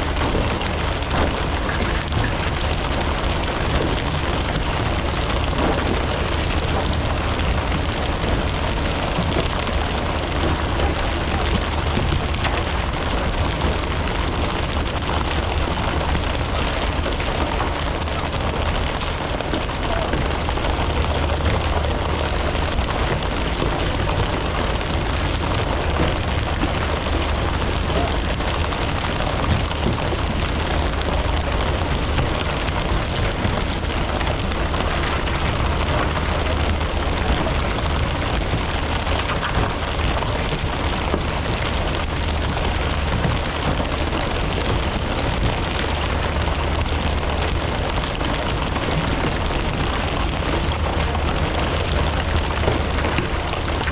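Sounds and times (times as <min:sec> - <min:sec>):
boat engine humming: 0:00.0 - 0:53.9
rushing water: 0:00.0 - 0:53.9.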